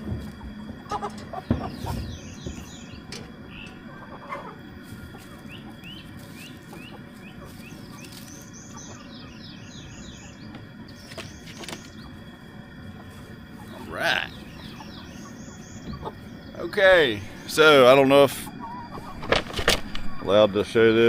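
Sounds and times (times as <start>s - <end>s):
bird chirps: 0.9s - 12.8s, 13.4s - 19.2s.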